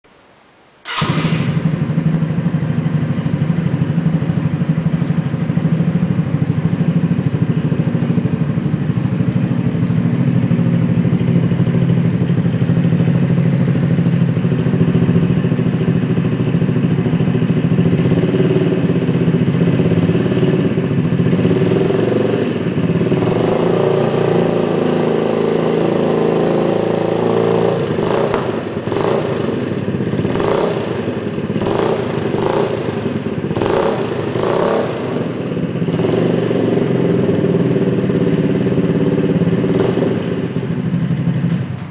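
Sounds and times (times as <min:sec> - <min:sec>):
scooter engine running: 0:00.9 - 0:41.9.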